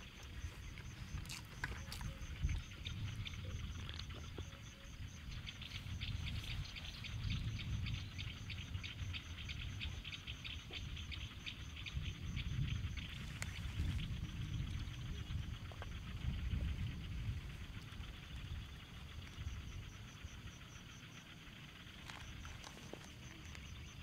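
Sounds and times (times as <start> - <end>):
insects pulsing calls: 0.0 - 24.0
low wind rumble: 0.0 - 24.0.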